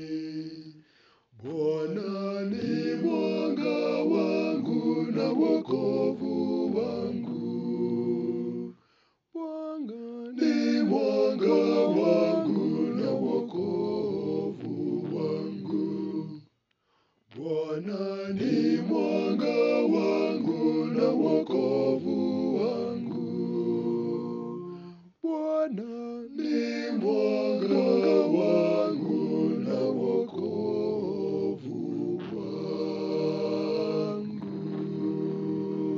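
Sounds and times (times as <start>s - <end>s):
male voices singing in harmony: 0.0s - 0.8s, 1.4s - 8.8s, 9.4s - 16.5s, 17.3s - 35.9s.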